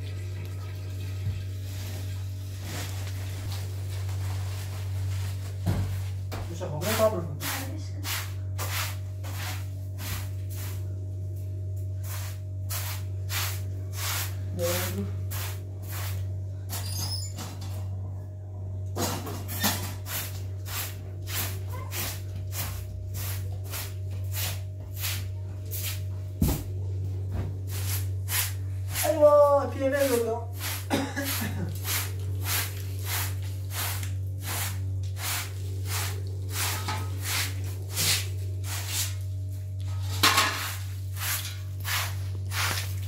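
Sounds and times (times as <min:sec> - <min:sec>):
steady low hum: 0:00.0 - 0:43.0
hand broom sweeping carpet: 0:01.6 - 0:11.0, 0:12.0 - 0:16.7, 0:19.9 - 0:26.3, 0:27.3 - 0:43.0.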